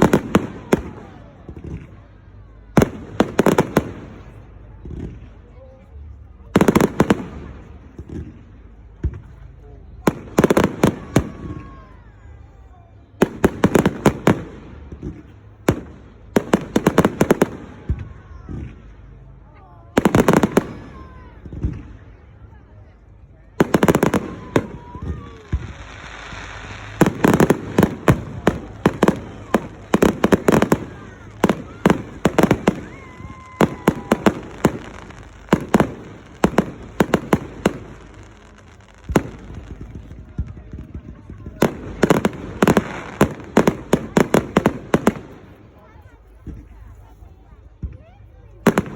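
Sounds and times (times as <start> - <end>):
fireworks exploding: 0.0 - 5.4, 6.4 - 19.2, 19.9 - 48.9.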